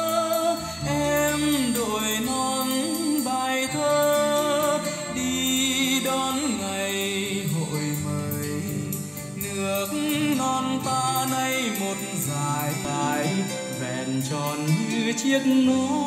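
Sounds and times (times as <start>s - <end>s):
instrumental backing music: 0.0s - 16.0s
singer with vibrato: 0.0s - 16.0s.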